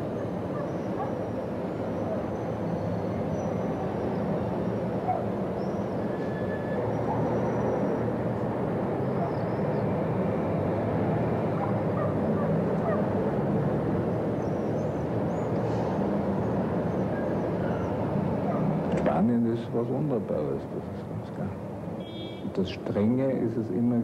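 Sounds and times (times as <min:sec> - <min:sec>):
distant traffic rumble: 0:00.0 - 0:24.0.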